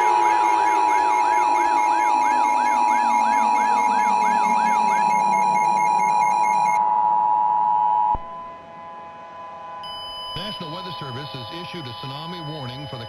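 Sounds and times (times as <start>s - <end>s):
two-tone alarm: 0.0s - 13.0s.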